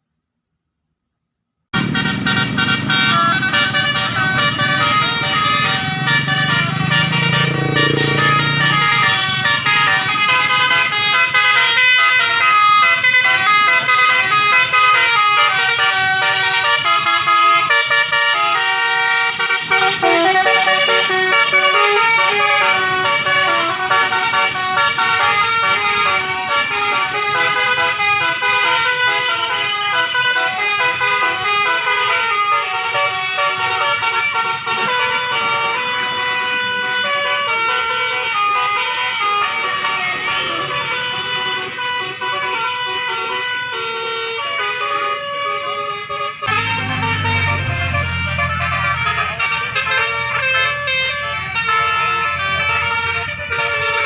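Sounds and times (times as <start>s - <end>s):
bus air horn playing melody: 1.7s - 54.0s.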